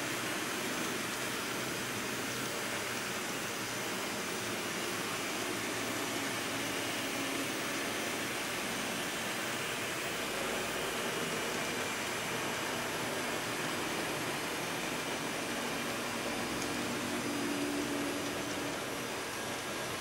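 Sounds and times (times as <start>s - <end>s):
model train whirring: 0.0s - 20.0s.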